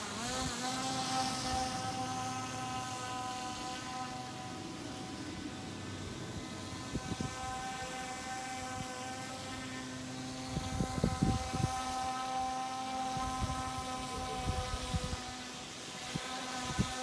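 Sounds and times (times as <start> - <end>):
model airboat motor whine: 0.0 - 17.0.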